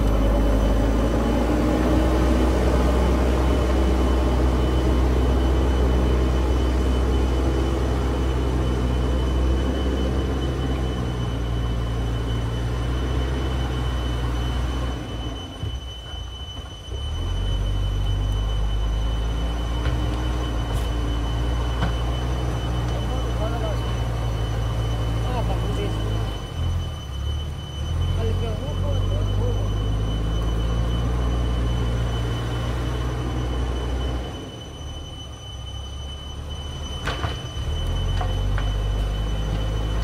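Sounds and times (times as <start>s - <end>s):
backhoe diesel engine rumbling: 0.0s - 40.0s.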